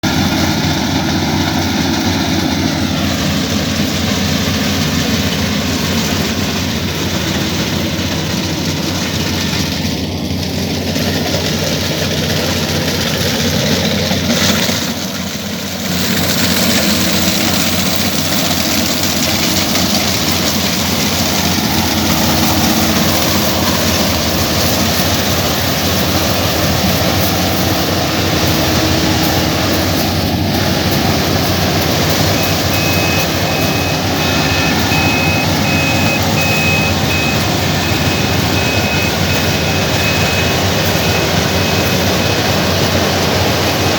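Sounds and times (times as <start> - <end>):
combine harvester engine running: 0.0 - 43.9.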